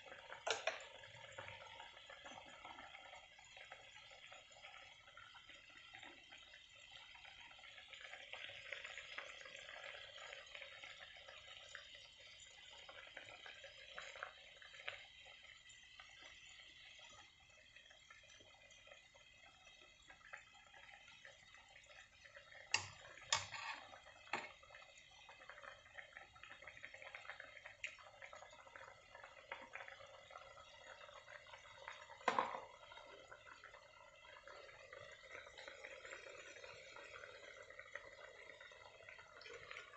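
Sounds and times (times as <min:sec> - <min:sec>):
sauce simmering in a frying pan: 0:00.0 - 0:39.9.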